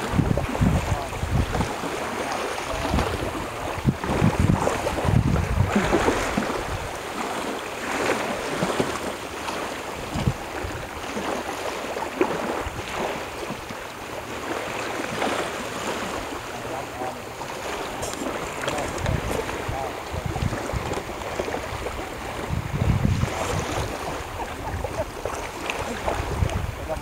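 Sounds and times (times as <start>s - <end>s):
wind buffeting microphone: 0.0s - 11.7s, 15.1s - 27.0s
small waves lapping: 0.0s - 27.0s.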